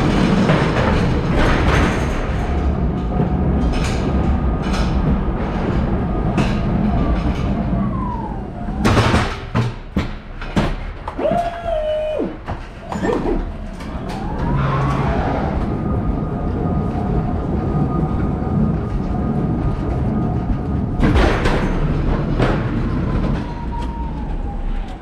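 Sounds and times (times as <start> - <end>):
wheels rumbling on floor: 0.0 - 25.0.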